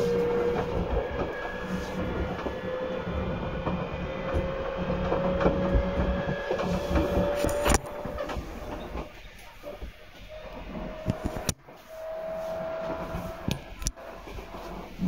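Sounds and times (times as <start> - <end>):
electric train motor whine: 0.0 - 15.0
low train rumble: 0.0 - 15.0
wheels clacking on rails: 0.0 - 15.0.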